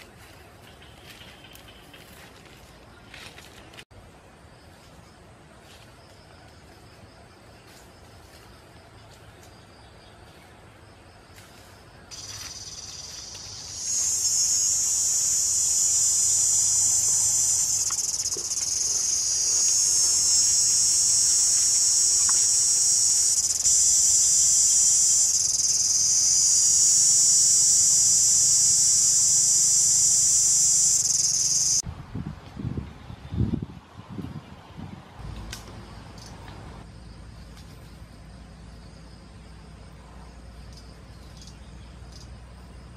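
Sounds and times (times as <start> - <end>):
insect chorus buzzing: 4.5 - 31.8, 35.2 - 42.9.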